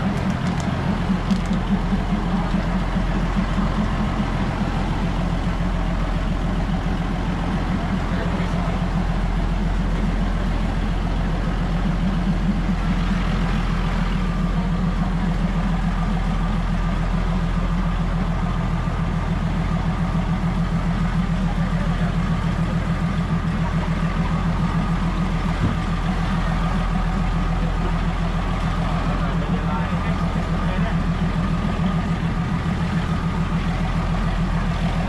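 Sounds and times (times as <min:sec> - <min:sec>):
heavy engine idling: 0:00.0 - 0:35.0.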